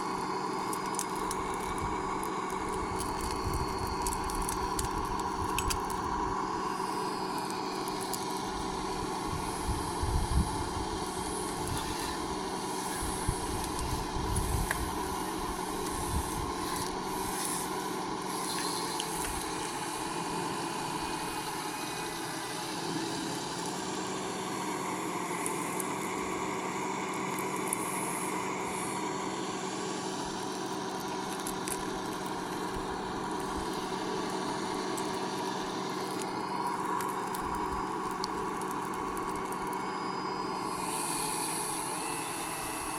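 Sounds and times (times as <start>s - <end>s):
electric motors whining: 0.0s - 42.9s.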